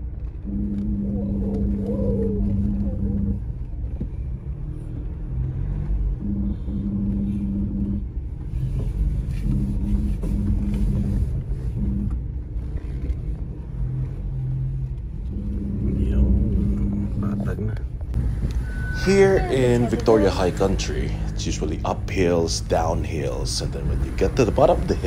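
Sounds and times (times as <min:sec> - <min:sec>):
continuous low rumble: 0:00.0 - 0:25.0
low engine drone: 0:00.0 - 0:25.0.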